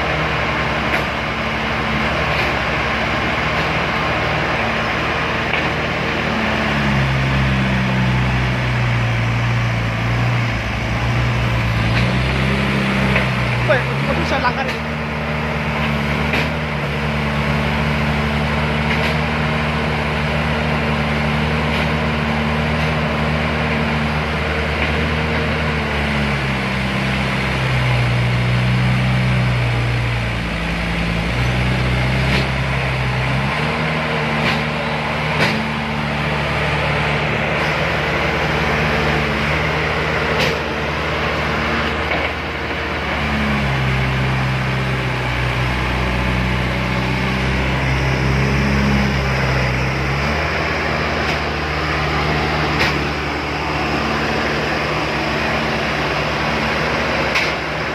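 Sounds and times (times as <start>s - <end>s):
heavy diesel engine under load: 0.0s - 57.9s.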